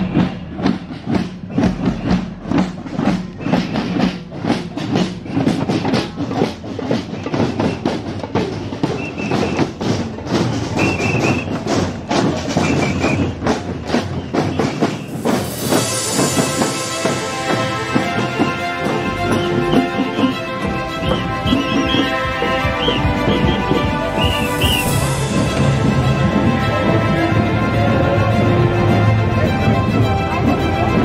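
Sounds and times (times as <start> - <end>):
marching snare and bass drums: 0.0 - 31.0.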